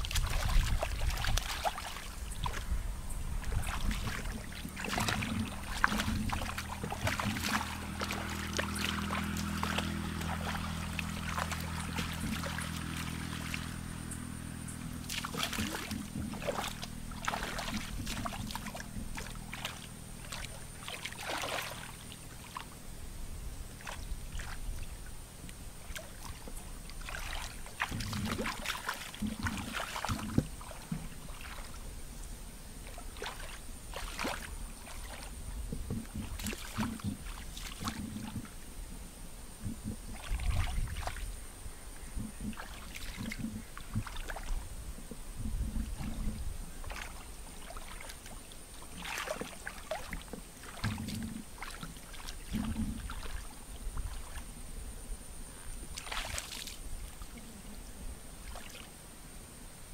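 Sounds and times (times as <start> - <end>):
water splashing and sloshing: 0.0 - 59.9.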